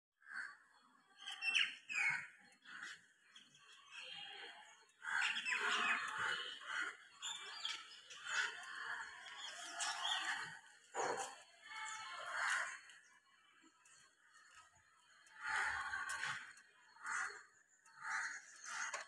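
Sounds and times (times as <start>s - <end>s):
birds chirping: 1.2s - 19.0s.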